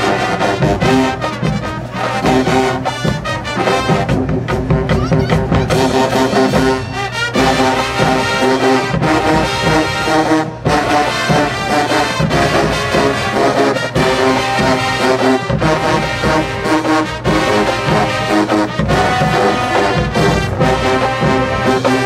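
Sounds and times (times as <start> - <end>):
drums: 0.0 - 22.0
marching band brass: 0.0 - 22.0.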